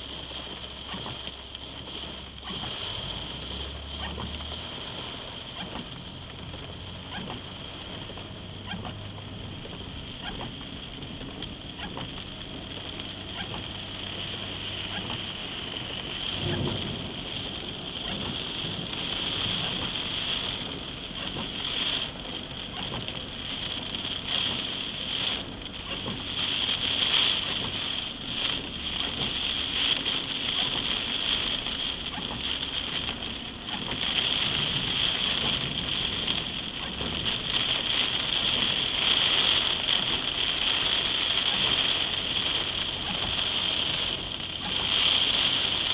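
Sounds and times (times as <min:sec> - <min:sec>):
heavy rain on car roof: 0:00.0 - 0:45.9.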